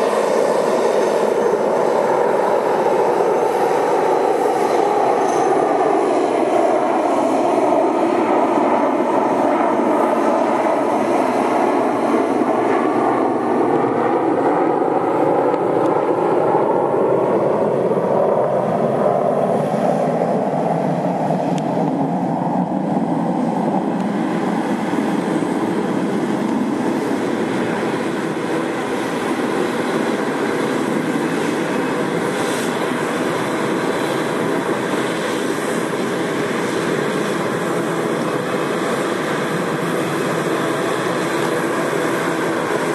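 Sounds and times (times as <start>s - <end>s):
jet engine roar: 0.0s - 42.9s.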